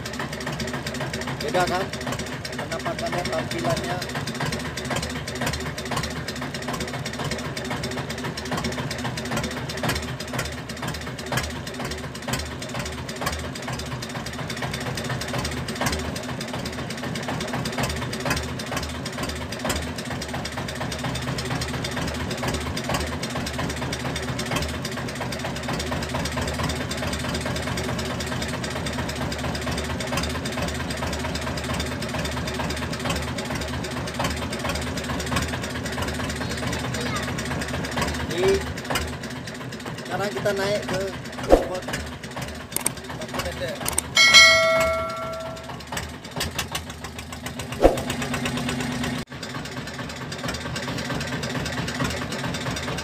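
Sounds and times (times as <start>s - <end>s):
boat engine running: 0.0s - 45.9s.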